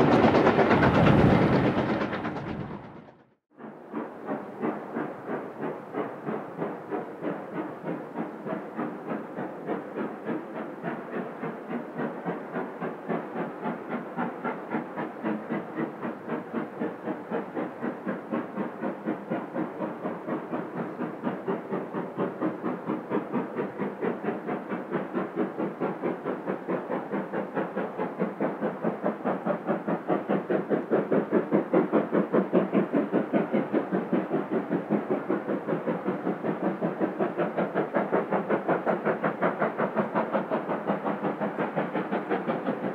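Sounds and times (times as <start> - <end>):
steam locomotive exhaust beats: 0.0 - 42.9.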